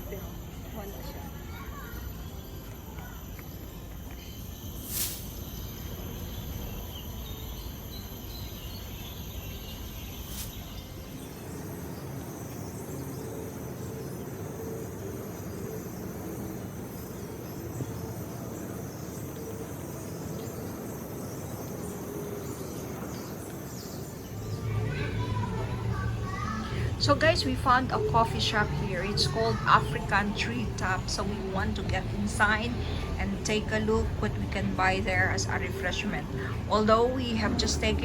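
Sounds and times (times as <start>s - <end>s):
insects buzzing: 0.0s - 38.0s
low background noise: 0.0s - 38.0s.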